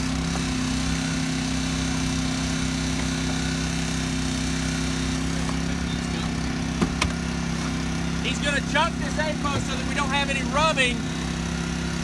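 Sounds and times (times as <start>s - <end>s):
small engine droning: 0.0s - 12.0s.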